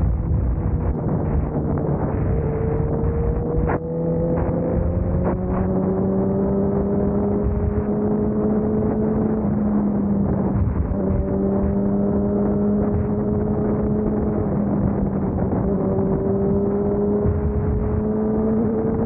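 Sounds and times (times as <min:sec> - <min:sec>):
vehicle engine rumbling under load: 0:00.0 - 0:19.0.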